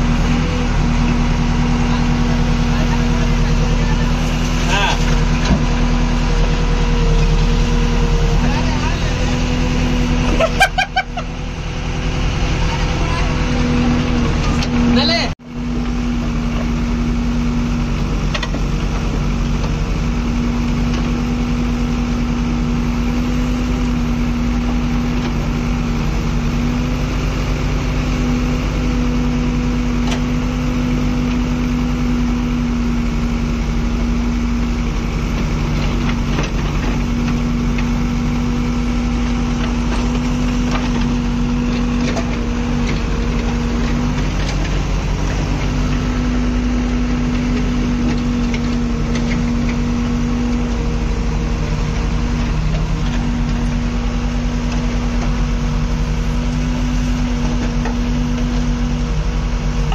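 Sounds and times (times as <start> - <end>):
diesel engine under hydraulic load: 0.0 - 59.9.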